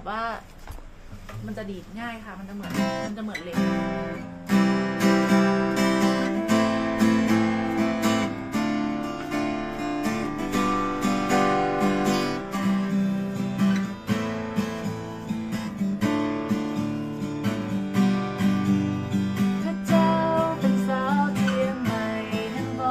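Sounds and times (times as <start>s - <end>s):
acoustic guitar strummed chords: 2.6s - 22.9s.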